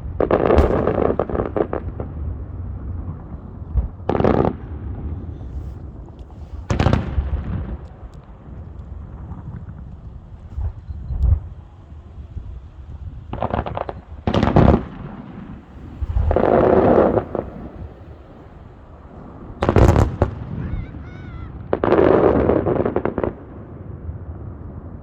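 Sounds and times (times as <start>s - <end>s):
firework bangs: 0.0s - 25.0s
rushing firework crackles: 0.0s - 25.0s.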